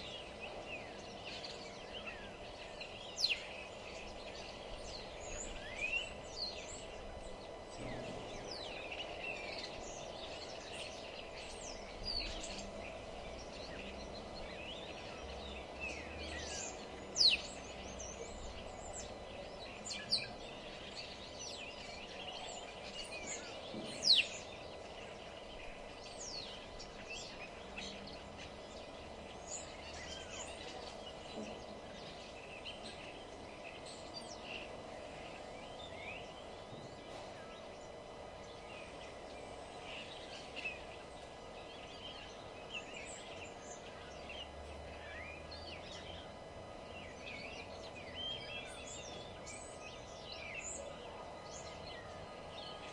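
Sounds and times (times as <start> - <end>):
low background noise: 0.0 - 52.9
songbirds chirping and calling: 0.0 - 52.9.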